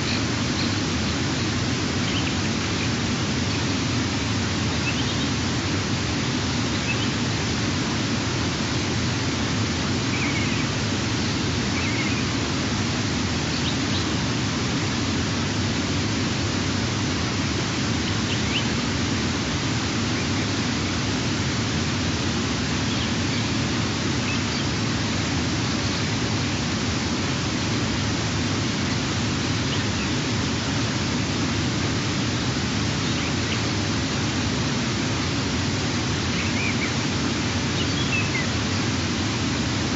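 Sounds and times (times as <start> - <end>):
outdoor hiss: 0.0 - 39.9.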